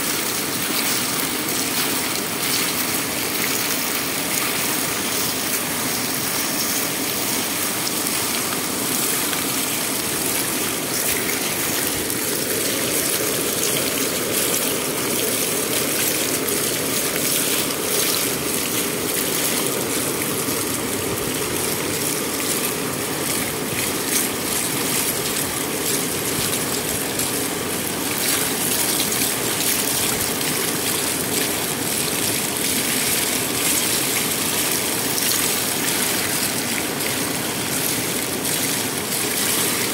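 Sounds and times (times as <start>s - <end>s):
water churning in pool: 0.0s - 39.9s
water pouring over weir: 0.0s - 39.9s.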